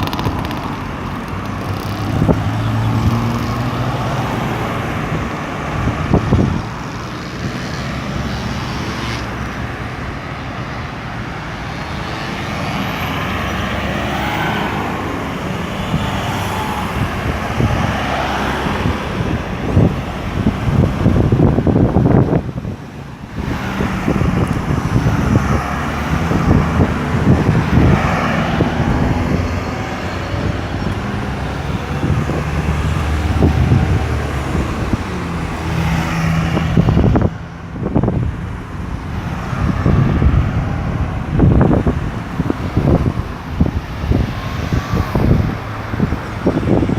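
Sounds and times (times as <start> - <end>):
traffic passing: 0.0 - 46.9.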